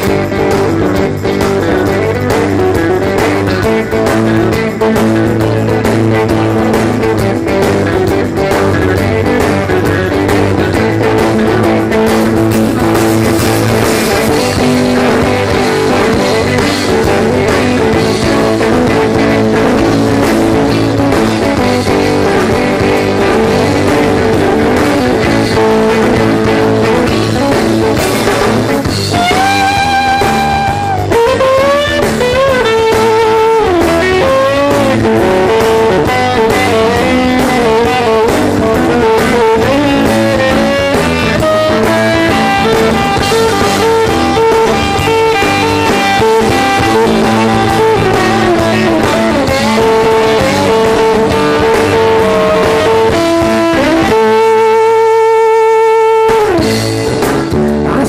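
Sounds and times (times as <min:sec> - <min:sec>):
lead guitar bending notes: 0:00.0 - 0:58.0
live rock band playing: 0:00.0 - 0:58.0.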